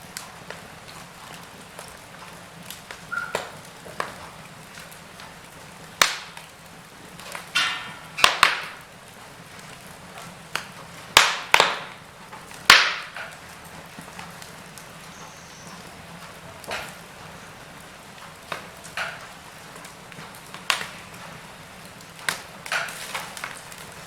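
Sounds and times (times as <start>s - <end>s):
wood fire popping and snapping: 0.0s - 24.0s.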